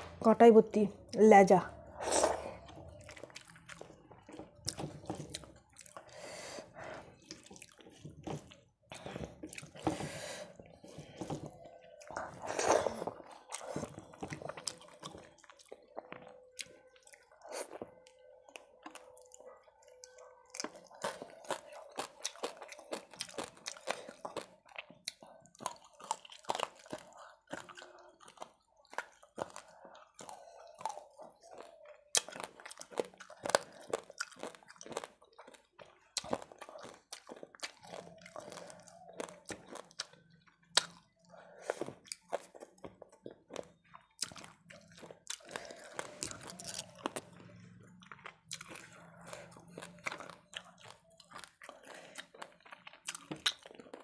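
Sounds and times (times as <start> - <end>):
wet chewing and lip smacks: 2.5 - 6.2, 7.1 - 10.0, 10.6 - 54.0.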